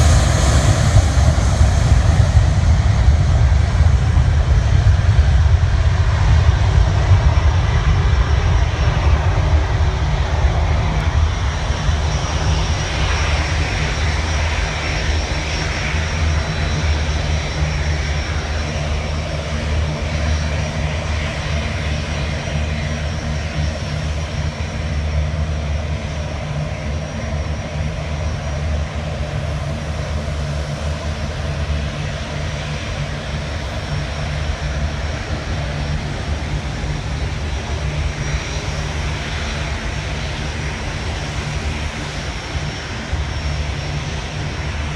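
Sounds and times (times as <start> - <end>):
aircraft engines rumbling: 0.0 - 44.9.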